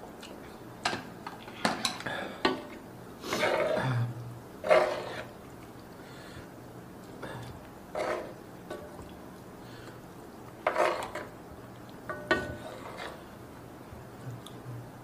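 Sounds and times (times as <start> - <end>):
wet swishes of stirring noodles: 1.4 - 3.8, 4.6 - 14.6.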